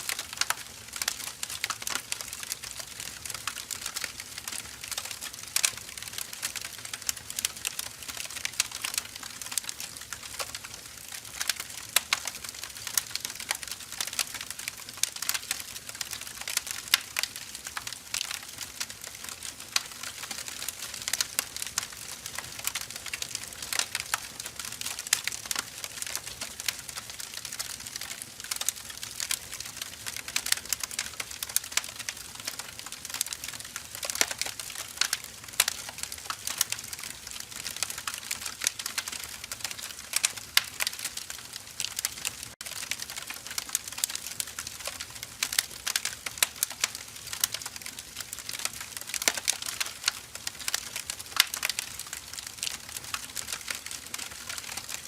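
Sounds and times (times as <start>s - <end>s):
logs crackling and popping: 0.0s - 55.0s.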